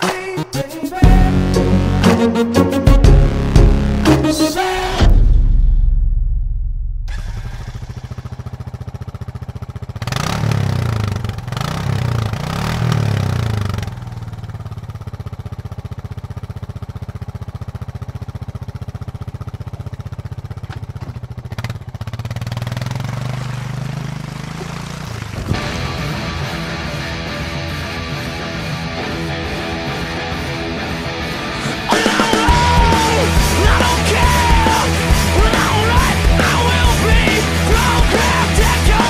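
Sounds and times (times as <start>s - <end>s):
vehicle engine idling and revving: 6.0s - 39.0s.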